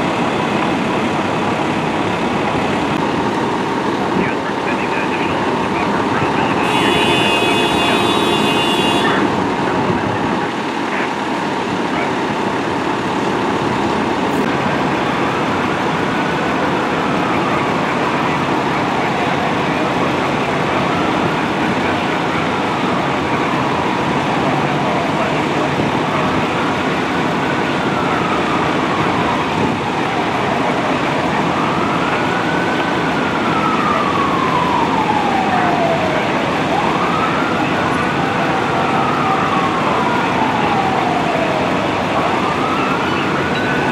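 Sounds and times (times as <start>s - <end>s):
emergency siren wailing: 0.0s - 43.9s
street traffic noise: 0.0s - 43.9s.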